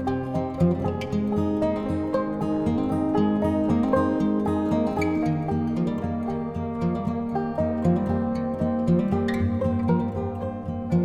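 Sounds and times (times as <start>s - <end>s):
low musical accompaniment: 0.0s - 11.0s
plucked string notes: 0.0s - 11.0s.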